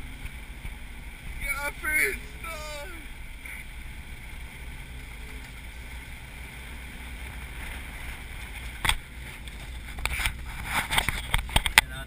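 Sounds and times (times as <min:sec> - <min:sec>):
vehicle engine and tyre rumble: 0:00.0 - 0:12.0.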